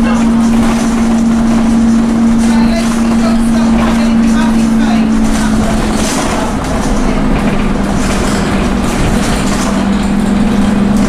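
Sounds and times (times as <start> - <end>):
bus diesel engine drone: 0.0 - 11.0
road and running noise: 0.0 - 11.0.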